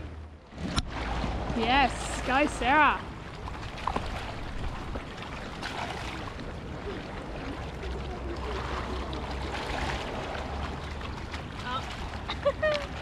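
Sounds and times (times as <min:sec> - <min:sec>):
waves lapping against rocks: 0:00.1 - 0:13.0.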